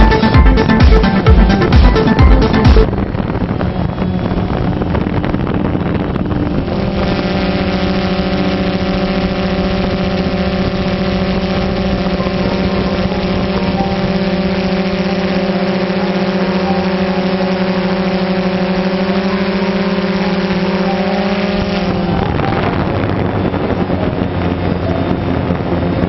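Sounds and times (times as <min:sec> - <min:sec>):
drone propellers whirring: 0:00.0 - 0:26.0
wind on microphone: 0:01.1 - 0:26.0.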